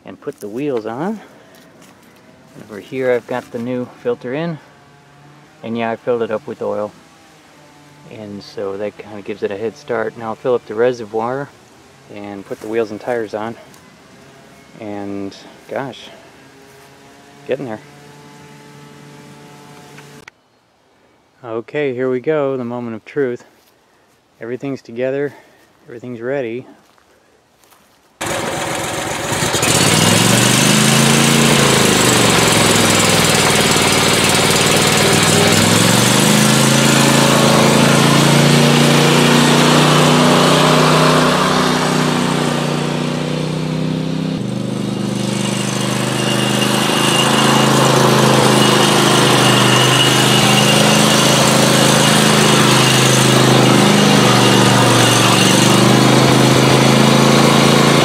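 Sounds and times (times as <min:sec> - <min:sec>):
mower engine running: 0:00.0 - 0:20.3, 0:28.2 - 0:58.0.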